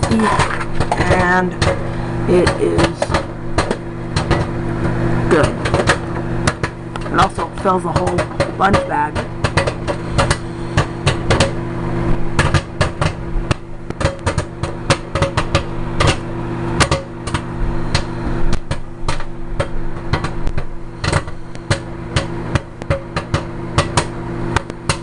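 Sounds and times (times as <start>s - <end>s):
microwave oven hum: 0.0s - 25.0s
popcorn popping: 0.0s - 25.0s.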